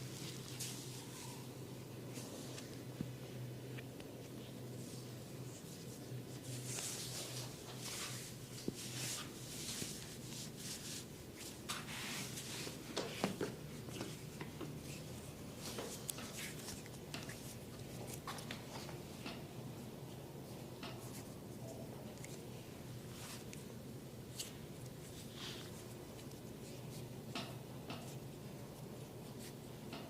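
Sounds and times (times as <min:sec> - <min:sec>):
soft swishing rubbing strokes: 0:00.0 - 0:03.4, 0:04.2 - 0:18.2, 0:20.1 - 0:27.2.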